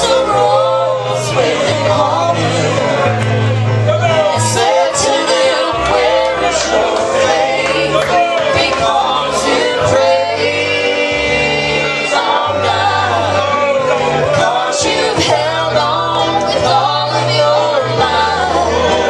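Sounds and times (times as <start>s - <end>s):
gospel singing: 0.0s - 19.0s
held bass notes: 0.0s - 19.0s.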